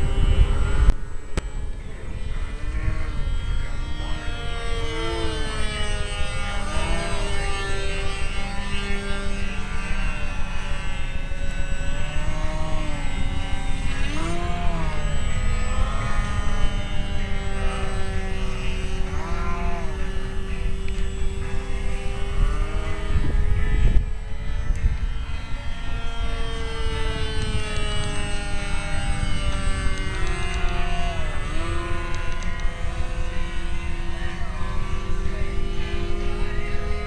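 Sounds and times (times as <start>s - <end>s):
model airplane engine whine: 0.0s - 37.0s.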